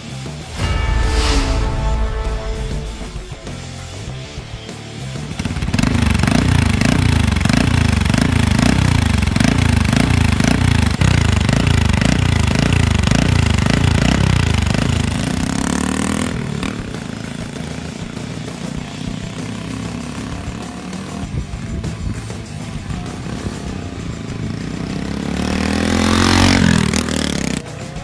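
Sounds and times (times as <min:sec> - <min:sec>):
motorcycle engine revving: 0:02.8 - 0:28.0.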